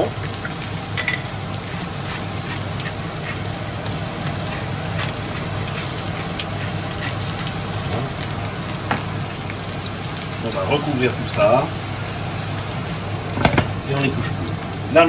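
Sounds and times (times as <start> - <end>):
food sizzling in frying pans: 0.0 - 15.0.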